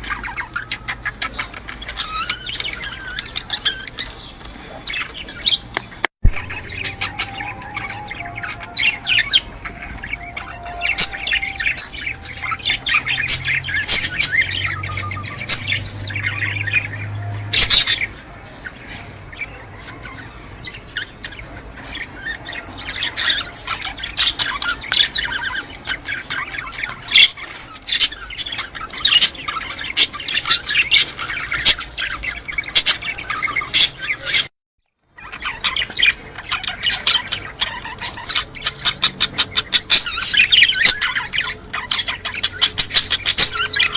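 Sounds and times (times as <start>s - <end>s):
cage birds chirping and chattering: 0.0s - 43.9s.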